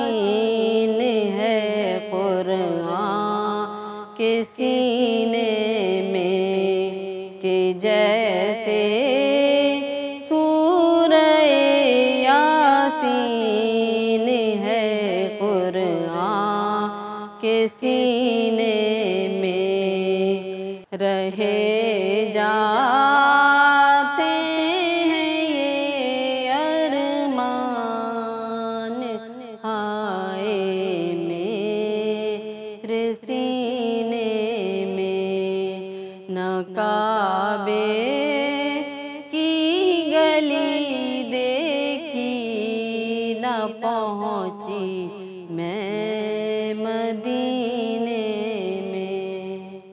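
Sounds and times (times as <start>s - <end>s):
woman chanting devotional poem: 0.0s - 49.9s.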